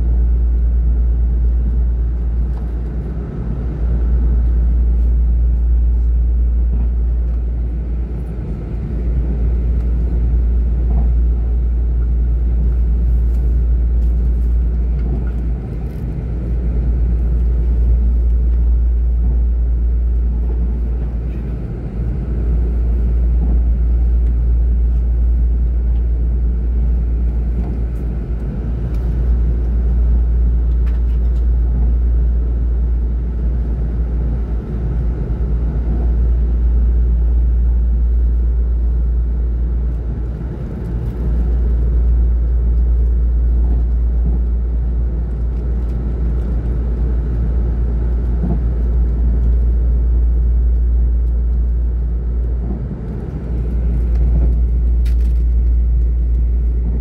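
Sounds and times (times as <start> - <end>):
vehicle rumble inside cabin: 0.0 - 57.0.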